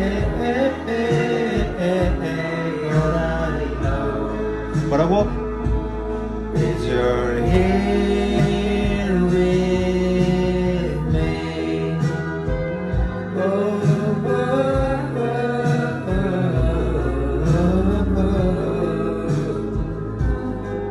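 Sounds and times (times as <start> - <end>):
pop music with singing: 0.0 - 20.9.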